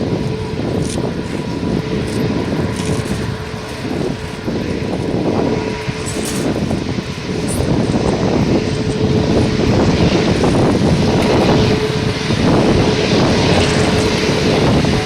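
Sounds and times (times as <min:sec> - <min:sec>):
jet engines rumbling: 0:00.0 - 0:15.0
steady engine tone: 0:00.0 - 0:15.0.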